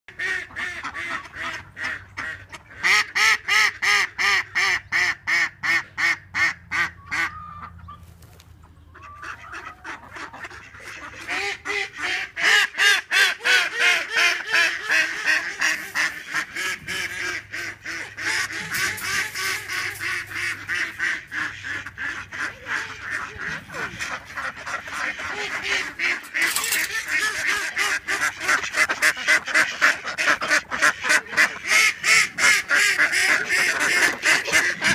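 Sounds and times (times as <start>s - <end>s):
ducks quacking loudly: 0.1s - 8.1s, 8.8s - 34.9s.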